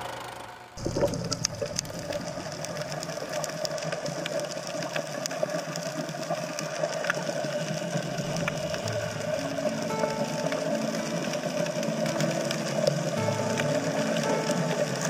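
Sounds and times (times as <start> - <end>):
sharp clicks and crackles: 0.8 - 15.0.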